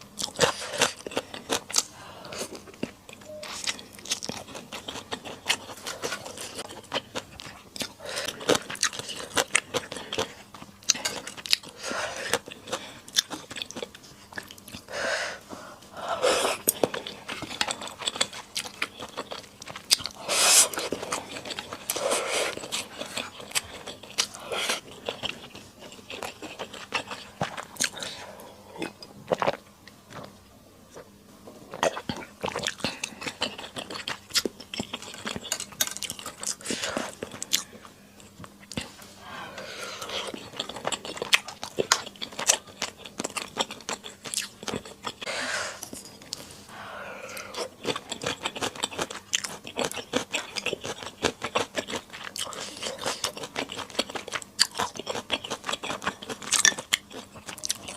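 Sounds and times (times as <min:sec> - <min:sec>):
chewing and crunching: 0:00.1 - 0:14.9, 0:16.2 - 0:46.6, 0:47.2 - 0:57.9.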